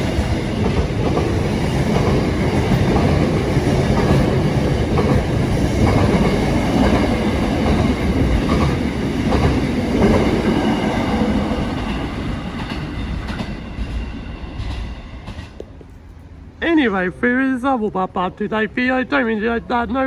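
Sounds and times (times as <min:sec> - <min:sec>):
wheels clattering on rails: 0:00.0 - 0:16.3
train rumbling past: 0:00.0 - 0:20.0.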